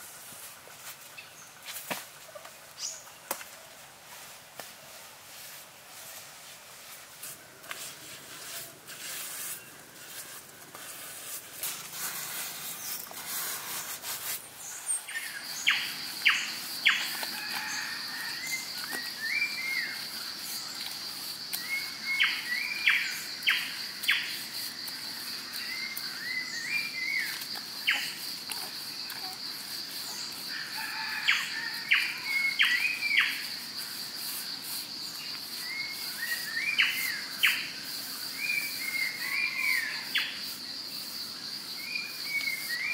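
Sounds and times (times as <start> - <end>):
forest birds chirping: 0.0 - 42.9
high insect buzz: 7.2 - 42.9.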